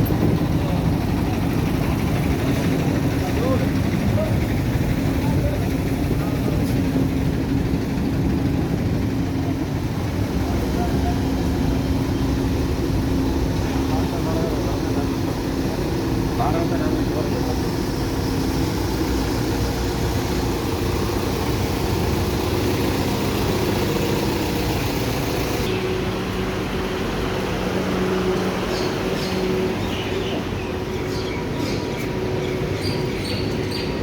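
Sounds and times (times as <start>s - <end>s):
moving vehicle rumble: 0.0s - 34.0s.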